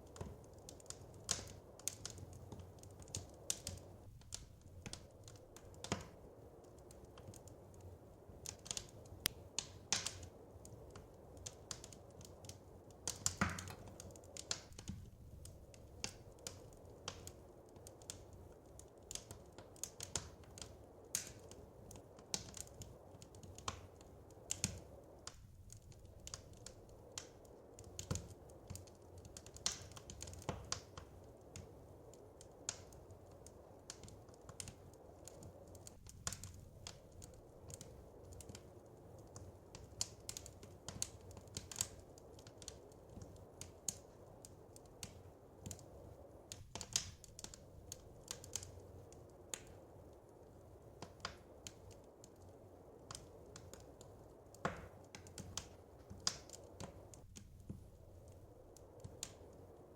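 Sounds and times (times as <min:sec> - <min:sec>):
low steady rumble of fire: 0:00.0 - 0:59.9
wood fire popping and snapping: 0:00.0 - 0:59.9.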